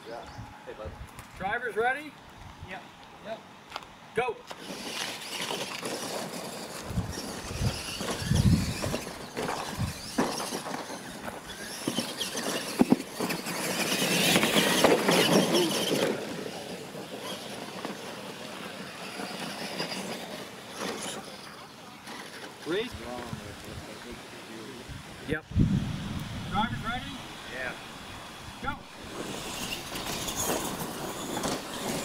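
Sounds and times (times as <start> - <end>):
rc truck motors: 4.5 - 25.2, 26.5 - 32.0.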